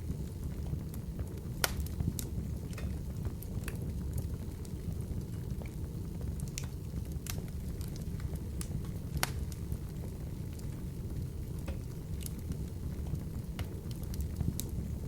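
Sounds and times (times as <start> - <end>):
burning wood crackling and popping: 0.0 - 15.0
low rumble of fire flames: 0.0 - 15.0.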